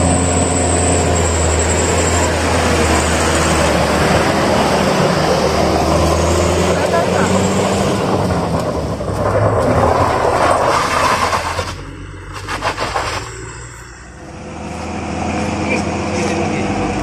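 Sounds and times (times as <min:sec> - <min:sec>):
truck engine labouring uphill: 0:00.0 - 0:17.0.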